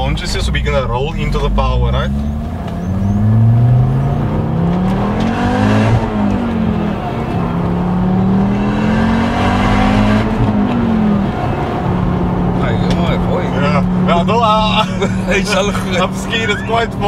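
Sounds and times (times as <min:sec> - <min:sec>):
turbocharged car engine accelerating: 0:00.0 - 0:17.0.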